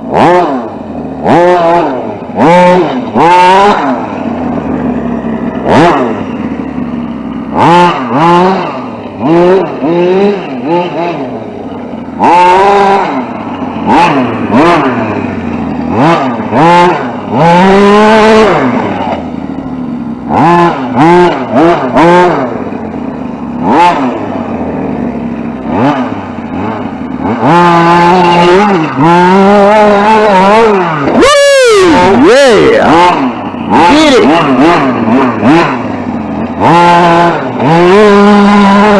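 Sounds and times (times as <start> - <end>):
toy truck motor revving: 0.0 - 6.6, 7.4 - 11.3, 12.2 - 13.2, 13.8 - 19.2, 20.2 - 22.5, 25.7 - 38.9.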